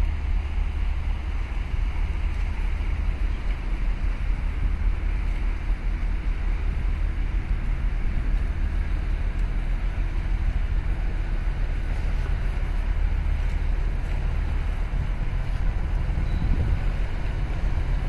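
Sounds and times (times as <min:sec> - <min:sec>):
truck engine hum: 0:00.0 - 0:18.0
wind buffeting microphone: 0:00.0 - 0:18.0.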